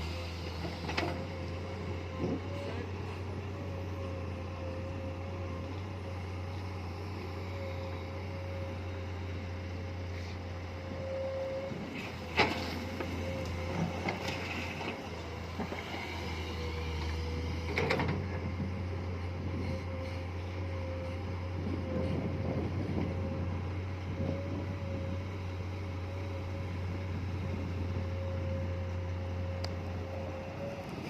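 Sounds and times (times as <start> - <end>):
constant whine: 0.0 - 31.0
excavator diesel engine running: 0.0 - 31.0.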